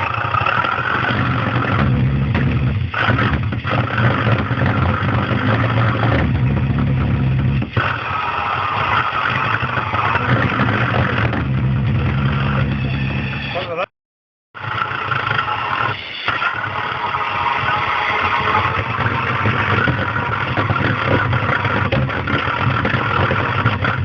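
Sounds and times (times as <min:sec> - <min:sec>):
pulse jet engine buzzing drone: 0:00.0 - 0:13.5, 0:14.6 - 0:24.0.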